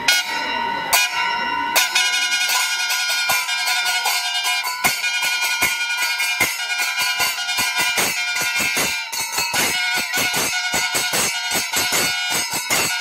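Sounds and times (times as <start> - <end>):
brass hand cymbals clashing: 0.0 - 13.0.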